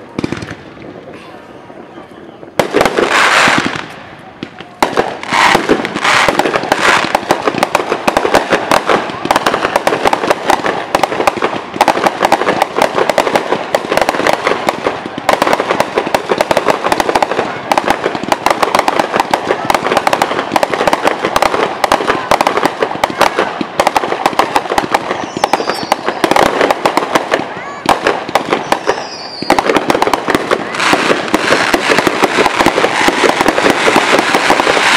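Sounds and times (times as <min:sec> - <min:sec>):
fireworks bursting and crackling: 0:00.0 - 0:34.9.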